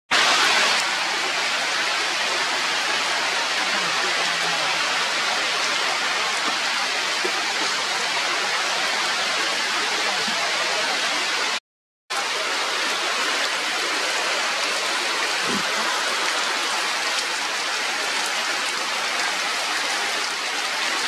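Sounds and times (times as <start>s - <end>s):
steady rain falling: 0.1s - 21.0s.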